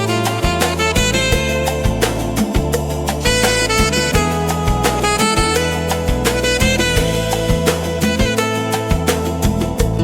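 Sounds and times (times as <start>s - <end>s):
smooth jazz instrumental: 0.0s - 10.0s.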